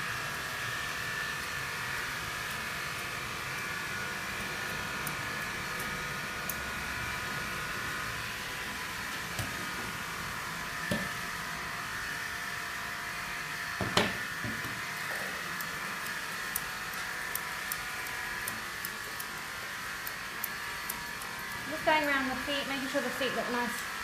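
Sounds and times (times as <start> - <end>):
steady machine hum: 0.0 - 24.0
shears snipping hair: 0.2 - 24.0.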